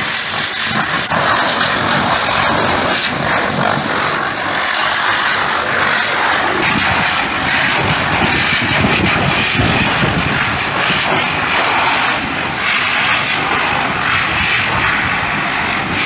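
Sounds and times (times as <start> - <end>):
pressure washer spraying: 0.0 - 16.0.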